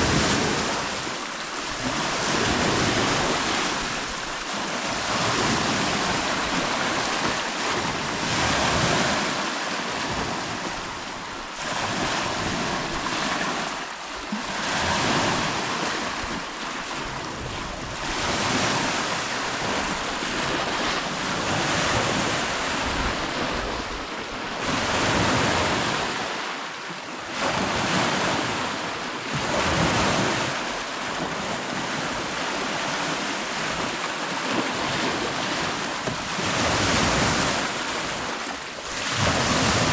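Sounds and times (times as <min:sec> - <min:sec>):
lake waves washing in: 0:00.0 - 0:39.9.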